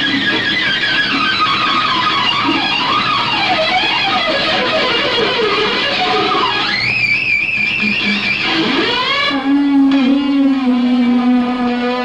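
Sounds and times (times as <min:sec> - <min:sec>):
electric guitar solo with vibrato: 0:00.0 - 0:12.0.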